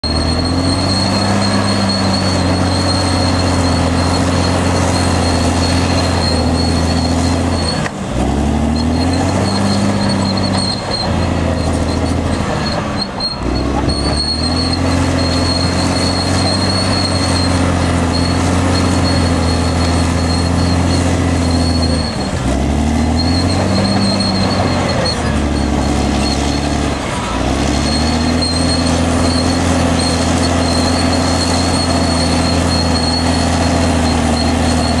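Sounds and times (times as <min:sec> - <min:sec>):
bulldozer diesel engine under load: 0:00.0 - 0:35.0
high squeal from steel tracks: 0:00.0 - 0:35.0.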